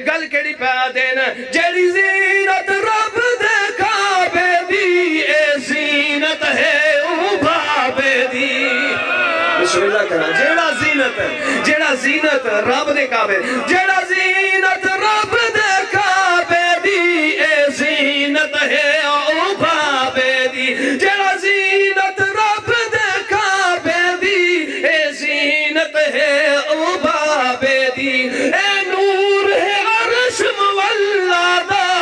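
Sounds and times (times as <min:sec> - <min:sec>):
man singing with vibrato: 0:00.0 - 0:32.0.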